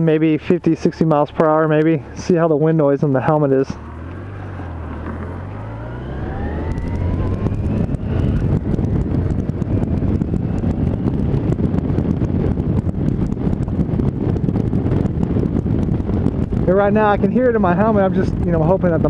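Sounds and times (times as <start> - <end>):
wind buffeting microphone: 0.0 - 19.0
motorcycle engine accelerating: 0.4 - 19.0.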